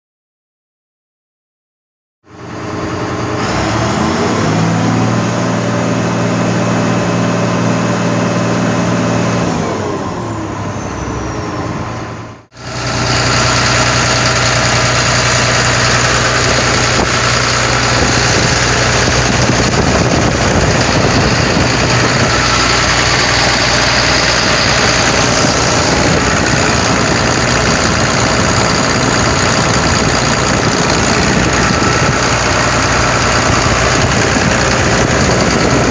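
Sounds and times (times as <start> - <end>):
diesel engine running: 2.3 - 35.9.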